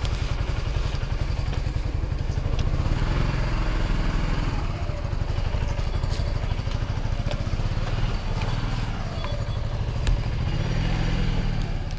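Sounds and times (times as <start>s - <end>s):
two-stroke motorcycle engine idling: 0.0s - 11.9s.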